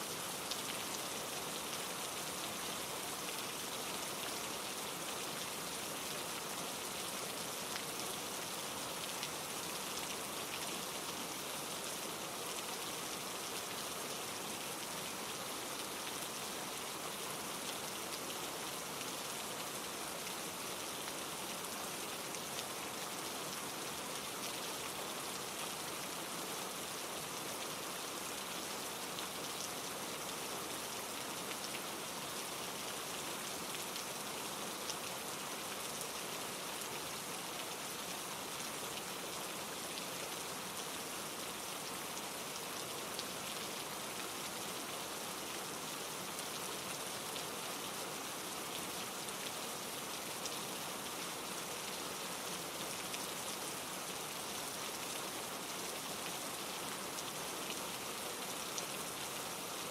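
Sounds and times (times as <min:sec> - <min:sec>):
rain falling on trees: 0:00.0 - 0:59.9.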